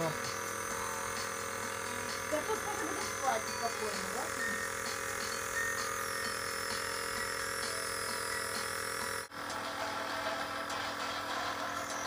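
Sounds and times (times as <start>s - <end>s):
nebulizer compressor buzzing: 0.0s - 12.0s.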